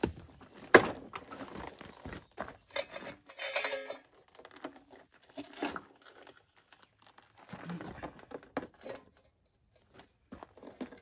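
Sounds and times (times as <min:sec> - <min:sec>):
crunching on gravel: 0:00.0 - 0:08.8.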